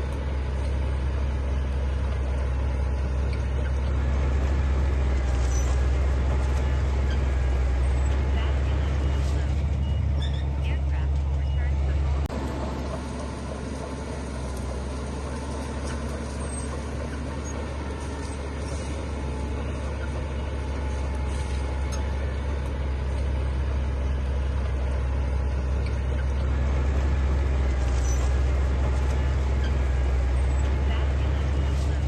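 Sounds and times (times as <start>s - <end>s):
heavy diesel engine droning: 0.0s - 32.0s.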